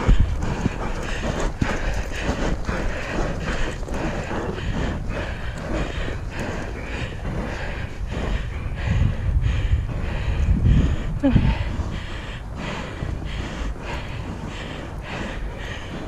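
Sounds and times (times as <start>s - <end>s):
horse hooves running: 0.0s - 16.0s
wind buffeting microphone: 0.0s - 16.0s.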